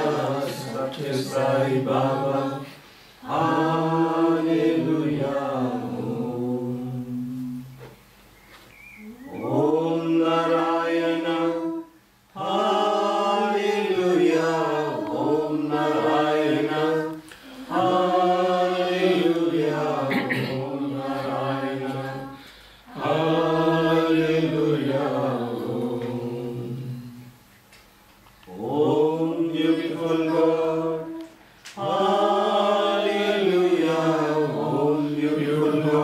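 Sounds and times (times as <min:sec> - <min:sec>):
congregation singing devotional song: 0:00.0 - 0:36.0.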